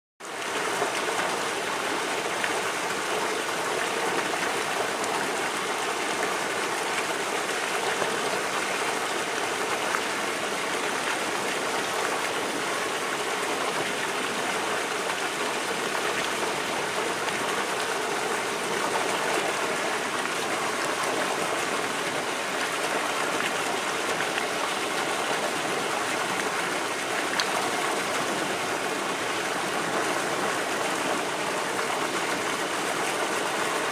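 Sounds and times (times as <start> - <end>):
waterfall splashing into pool: 0.2 - 33.9.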